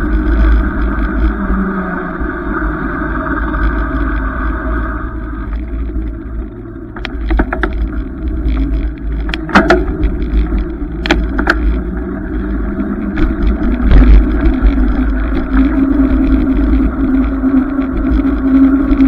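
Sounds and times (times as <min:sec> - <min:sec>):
bicycle rattling over bumps: 0:00.0 - 0:19.0
road rumble: 0:00.0 - 0:19.0
wind: 0:00.0 - 0:19.0.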